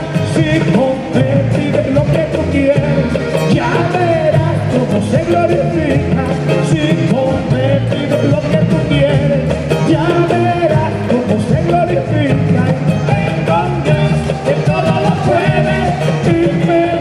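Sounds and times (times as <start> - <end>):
acoustic and electric guitar: 0.0 - 17.0
bass line: 0.0 - 17.0
button accordion: 0.0 - 17.0
man singing: 0.0 - 17.0.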